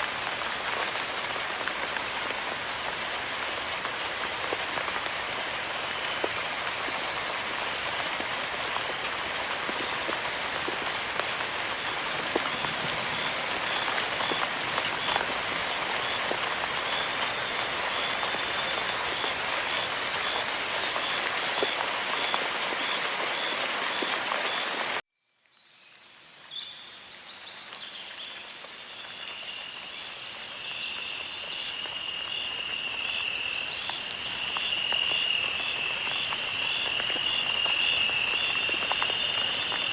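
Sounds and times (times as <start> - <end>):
rain falling: 0.0 - 25.0, 27.0 - 39.9.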